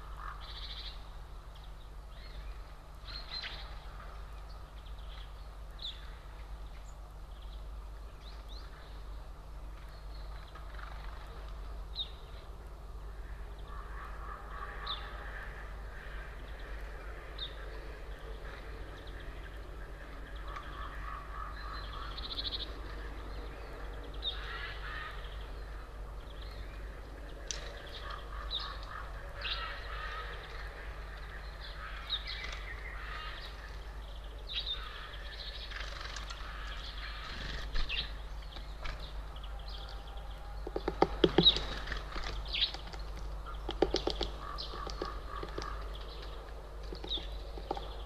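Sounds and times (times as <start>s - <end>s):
songbirds chirping: 0.0s - 48.0s.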